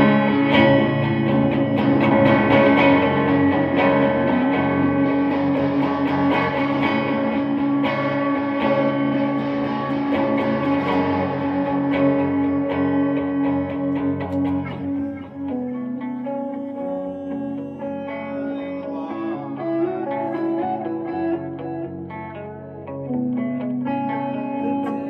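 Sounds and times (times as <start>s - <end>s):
electric guitar ringing notes: 0.0s - 25.0s.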